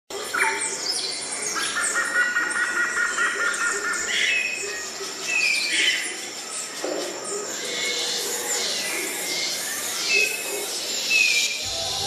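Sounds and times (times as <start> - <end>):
birds chirping: 0.2 - 12.0.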